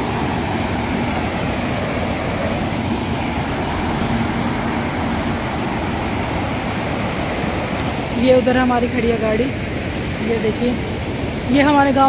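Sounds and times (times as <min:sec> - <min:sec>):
water rushing through rapids: 0:00.0 - 0:12.0.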